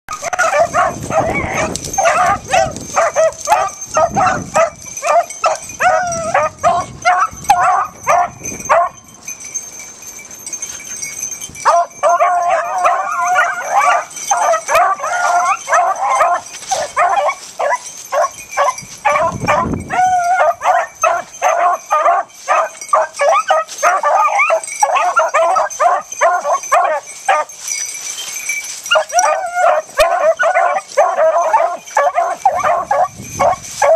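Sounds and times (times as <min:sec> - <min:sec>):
dogs baying and yelping: 0:00.1 - 0:33.9.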